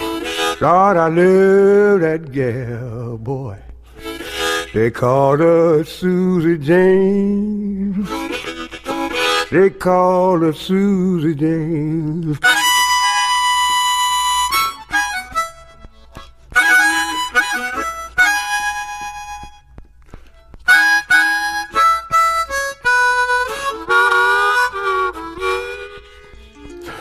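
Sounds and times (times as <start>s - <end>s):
blues harmonica playing: 0.0s - 27.0s.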